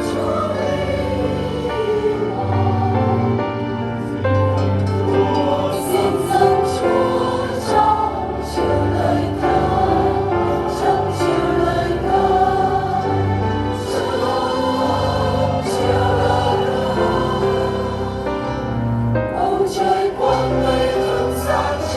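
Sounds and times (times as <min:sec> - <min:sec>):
choir singing: 0:00.0 - 0:21.9.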